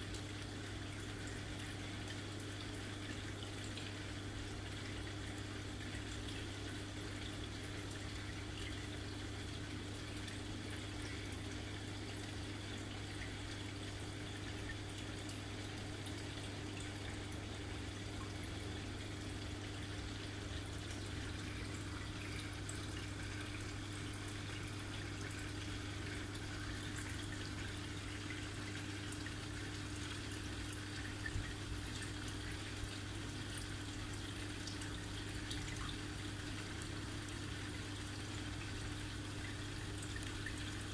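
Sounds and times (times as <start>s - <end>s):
electric pump hum: 0.0s - 40.9s
water trickling and bubbling: 0.0s - 40.9s.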